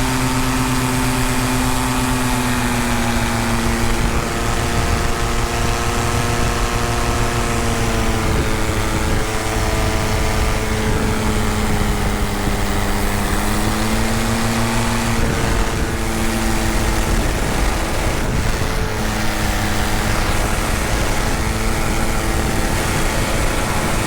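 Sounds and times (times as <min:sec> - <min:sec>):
paramotor engine and propeller: 0:00.0 - 0:24.0.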